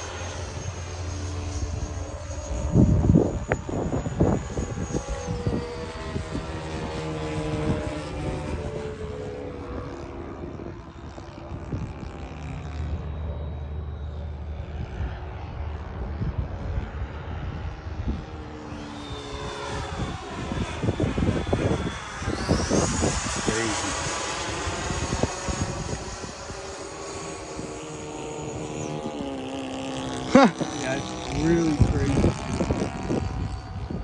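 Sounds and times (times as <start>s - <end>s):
electric ducted fan whine: 0.0s - 34.0s
wind buffeting microphone: 1.6s - 13.0s, 14.4s - 34.0s.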